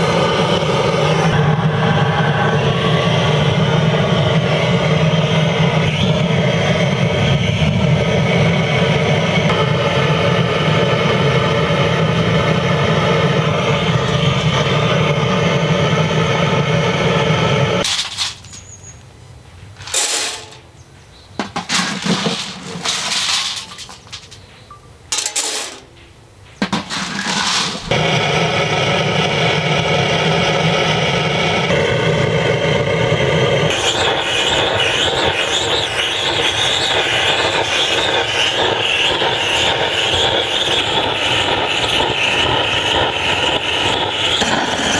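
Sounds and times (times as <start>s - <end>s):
blowtorch flame roaring: 0.0s - 18.5s, 26.8s - 44.9s.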